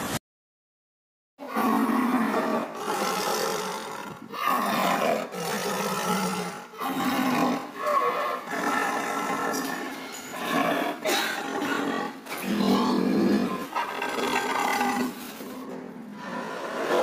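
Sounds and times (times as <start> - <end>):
tigers growling: 1.4 - 17.0.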